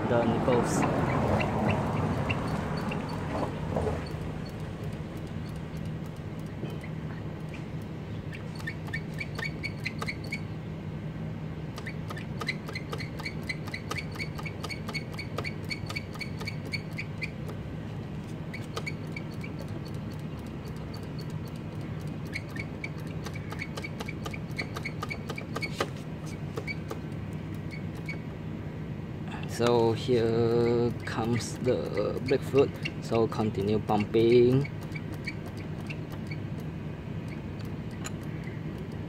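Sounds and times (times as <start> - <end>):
steady low hum: 0.0 - 39.0
small bird chirping: 0.6 - 10.5, 11.8 - 17.5, 18.5 - 28.2, 30.4 - 36.6, 37.2 - 39.0.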